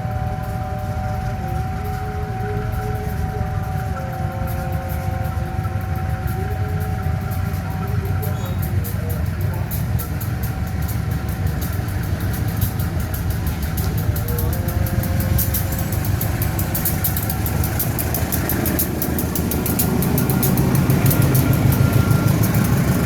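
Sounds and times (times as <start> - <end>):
vehicle engines idling: 0.0 - 23.0
fast even ticking: 1.4 - 23.0.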